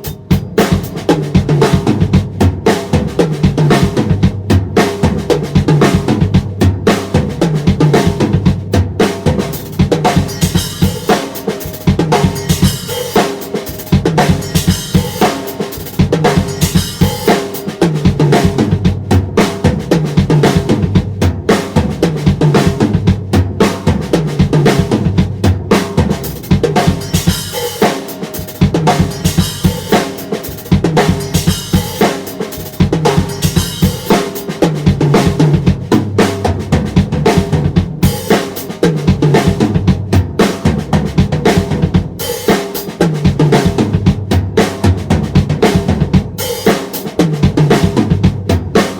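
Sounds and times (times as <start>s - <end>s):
bass drum and snare: 0.0s - 48.9s.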